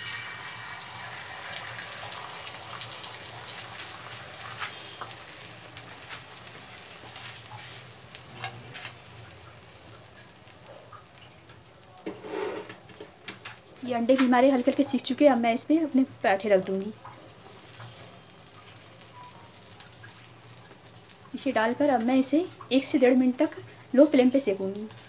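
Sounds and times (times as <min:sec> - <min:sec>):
egg sizzling in hot oil: 0:00.0 - 0:25.0.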